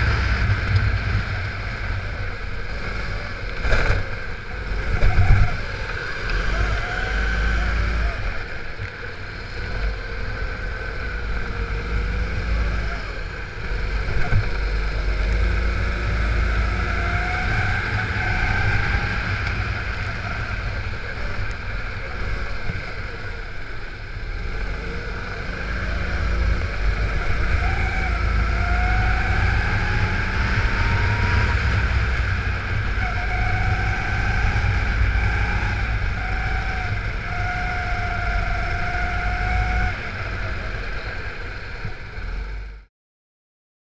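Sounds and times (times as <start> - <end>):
go-kart engine accelerating: 0.0 - 42.8.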